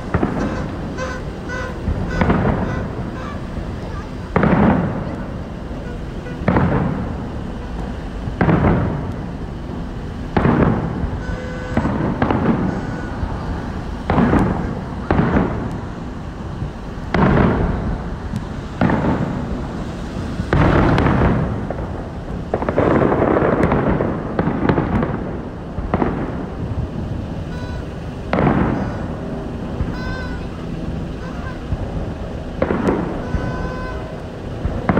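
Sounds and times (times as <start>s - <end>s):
firework shells bursting: 0.0s - 34.9s.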